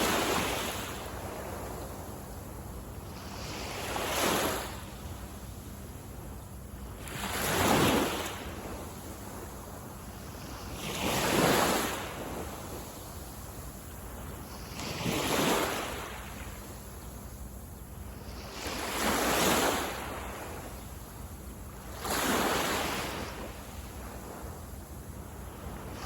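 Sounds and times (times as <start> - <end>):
small waves washing onto sand: 0.0 - 6.0, 6.9 - 17.0, 18.1 - 26.0
surf hiss: 0.0 - 26.0.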